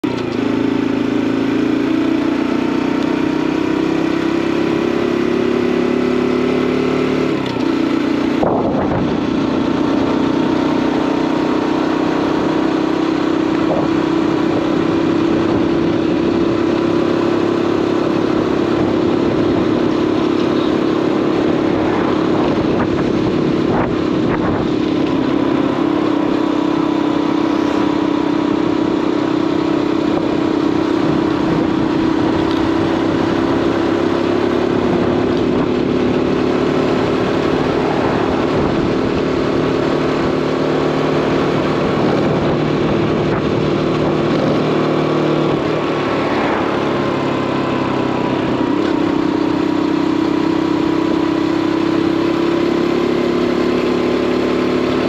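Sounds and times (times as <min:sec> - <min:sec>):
motorbike engine running: 0:00.0 - 0:55.0
road noise: 0:00.0 - 0:55.0
rushing wind: 0:07.3 - 0:55.0.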